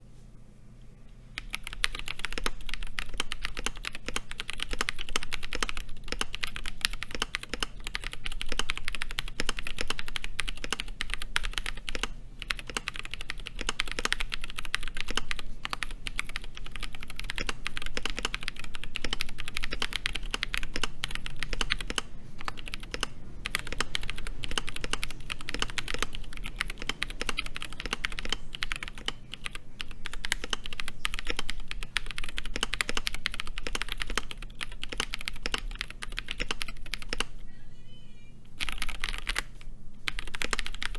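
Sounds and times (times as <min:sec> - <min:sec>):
mechanical keyboard typing: 0:01.4 - 0:37.3, 0:38.6 - 0:40.9.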